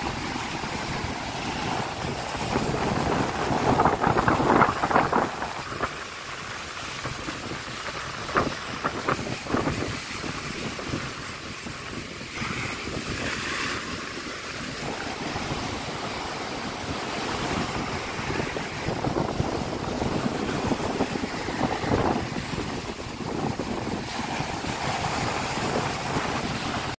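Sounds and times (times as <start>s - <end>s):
surf breaking on pebble beach: 0.0s - 27.0s
wind noise on microphone: 0.0s - 27.0s.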